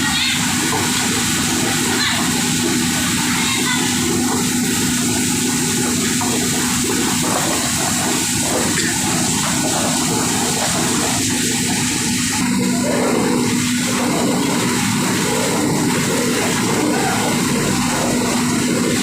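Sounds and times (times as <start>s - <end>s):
machine hum: 0.0s - 19.0s
water rushing and splashing: 0.0s - 19.0s.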